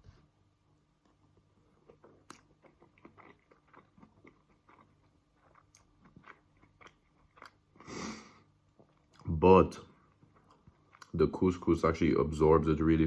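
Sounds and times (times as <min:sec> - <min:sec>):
faint chewing: 0:01.0 - 0:11.7.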